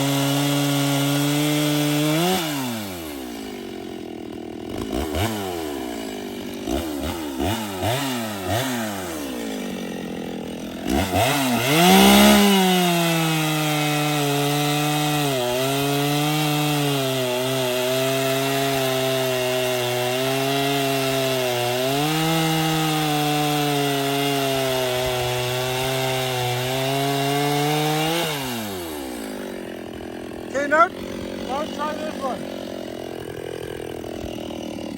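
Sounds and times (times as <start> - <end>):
chainsaw revving and cutting wood: 0.0 - 34.9.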